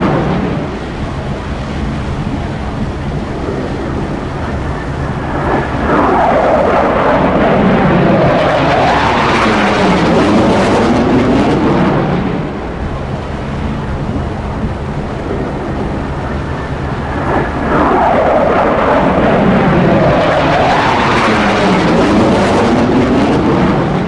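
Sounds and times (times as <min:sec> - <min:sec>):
fighter jet flyby: 0:00.0 - 0:24.0.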